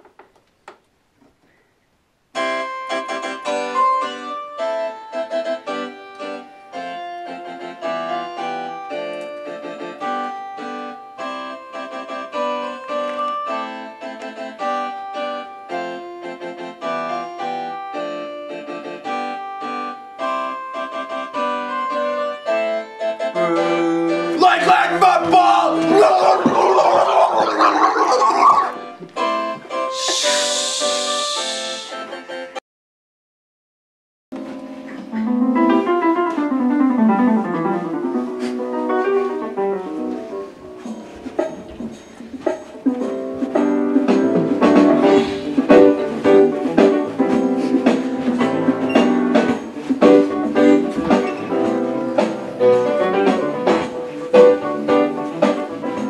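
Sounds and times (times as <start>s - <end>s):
harpsichord keyboard tune: 2.4s - 26.2s, 34.4s - 56.0s.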